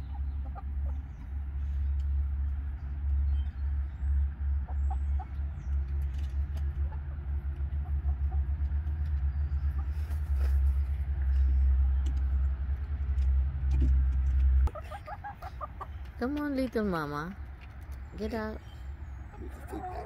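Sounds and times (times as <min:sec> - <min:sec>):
faint hen clucks: 0:00.0 - 0:03.6, 0:04.2 - 0:12.6, 0:14.6 - 0:17.4, 0:18.1 - 0:20.0.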